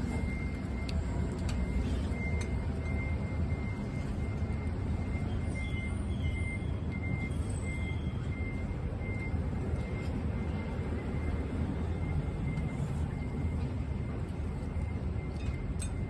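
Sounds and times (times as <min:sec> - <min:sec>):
low rumble of traffic: 0:00.0 - 0:16.0
reversing alarm beeping: 0:00.0 - 0:16.0.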